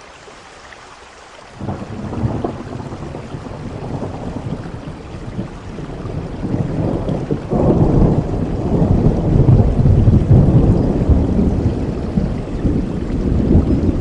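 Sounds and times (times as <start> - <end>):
steady rain: 0.0 - 14.0
rolling thunder rumble: 1.6 - 14.0.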